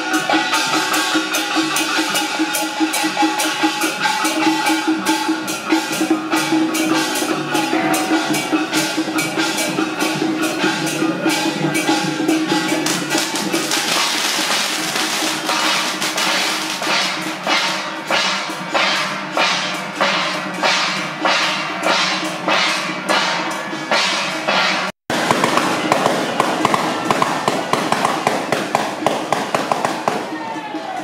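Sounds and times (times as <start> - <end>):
procession drums beating: 0.0 - 31.0.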